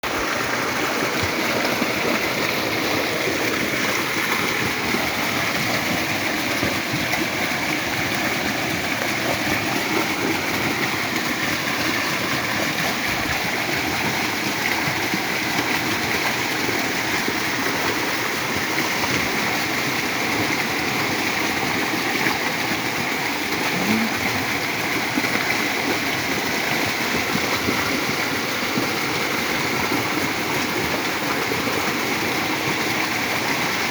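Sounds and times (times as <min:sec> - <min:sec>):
flooded creek water rushing: 0:00.0 - 0:33.9.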